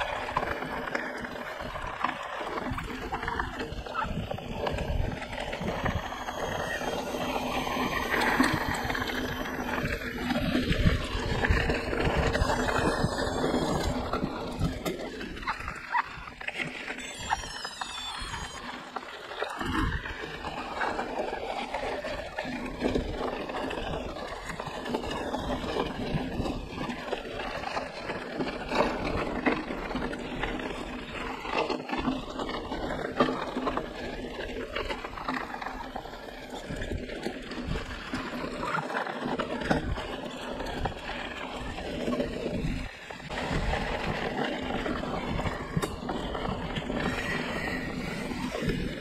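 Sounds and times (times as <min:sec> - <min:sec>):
tyre and wind noise: 0:00.0 - 0:49.0.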